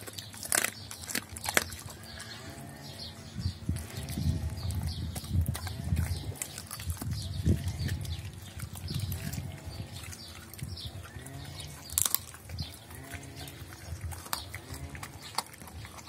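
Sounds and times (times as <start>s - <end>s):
dog chewing and licking: 0.0s - 16.0s.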